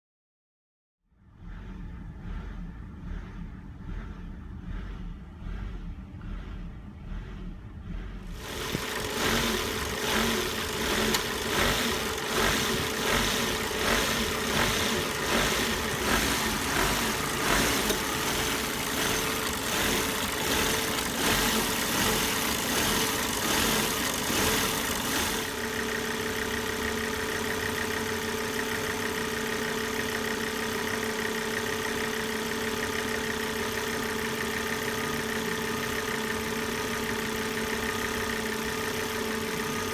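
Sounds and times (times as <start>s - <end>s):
car engine idling rough: 1.2s - 39.9s.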